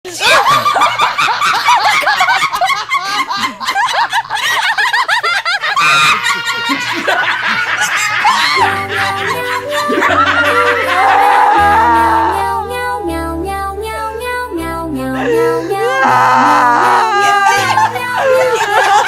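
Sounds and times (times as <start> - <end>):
rapid high-pitched laughter: 0.1 - 12.3, 15.9 - 19.0.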